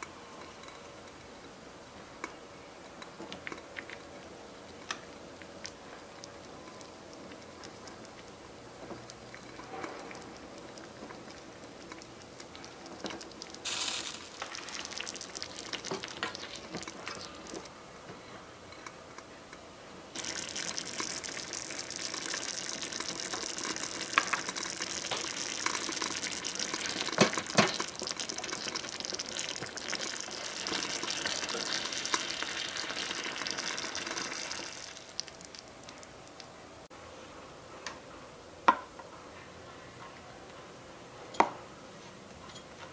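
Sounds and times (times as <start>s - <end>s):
stew simmering and bubbling: 0.0s - 40.9s.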